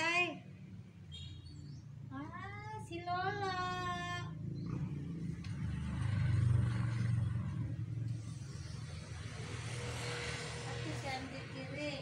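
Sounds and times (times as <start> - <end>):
passing vehicle rumble: 1.7 - 12.0.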